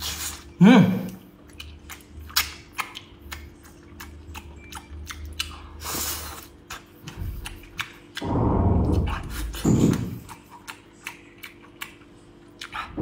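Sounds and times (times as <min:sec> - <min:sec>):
chewing and lip smacks: 0:00.0 - 0:08.2, 0:08.9 - 0:13.0.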